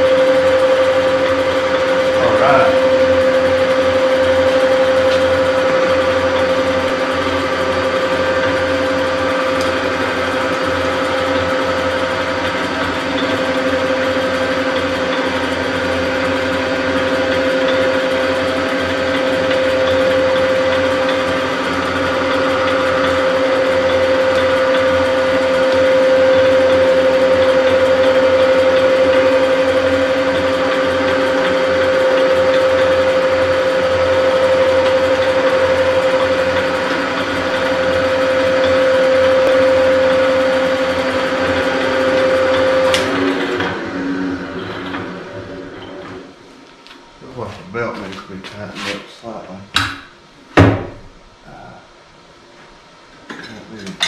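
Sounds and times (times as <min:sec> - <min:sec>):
milling machine whining: 0:00.0 - 0:49.0.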